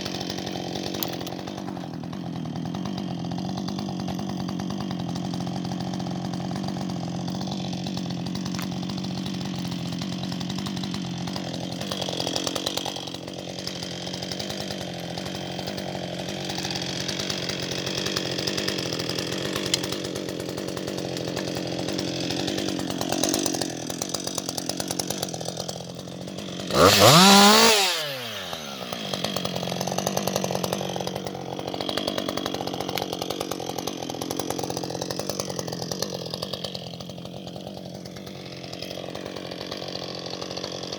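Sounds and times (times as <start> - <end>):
chainsaw running and revving: 0.0 - 40.9.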